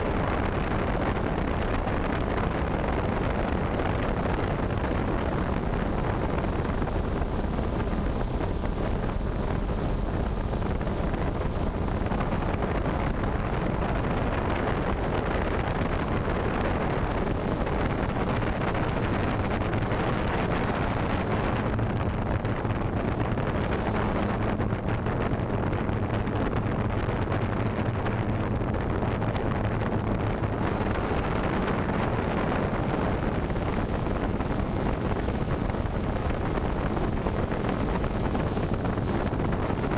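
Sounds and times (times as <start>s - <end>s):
drone propeller and motor noise: 0.0s - 39.9s
wind noise on microphone: 0.0s - 39.9s.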